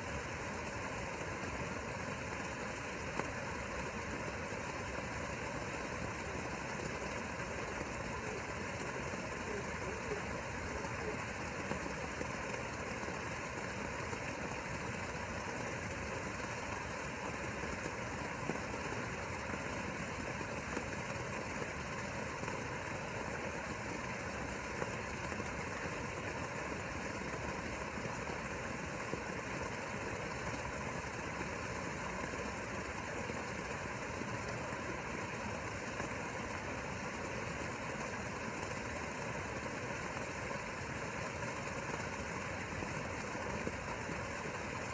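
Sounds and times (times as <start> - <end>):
small motor humming: 0.0 - 38.6.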